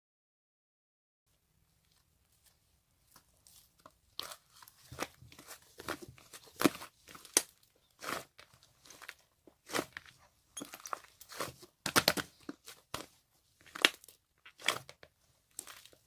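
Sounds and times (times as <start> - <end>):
rustling and crinkling: 1.7 - 16.0.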